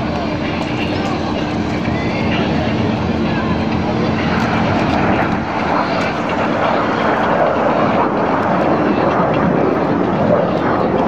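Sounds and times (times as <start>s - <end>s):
jets flying by: 0.0s - 11.0s.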